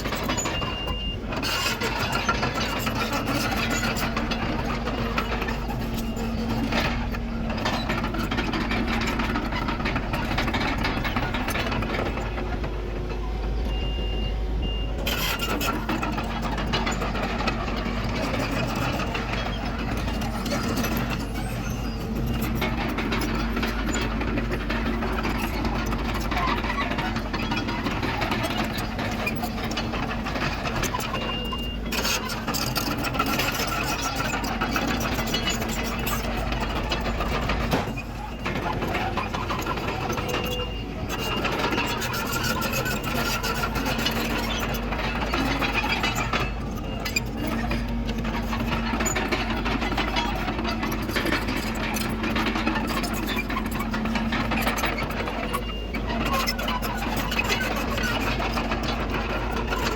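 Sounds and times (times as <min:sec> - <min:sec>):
diesel engine running: 0:00.0 - 0:59.9
tracks clattering: 0:00.0 - 0:59.9.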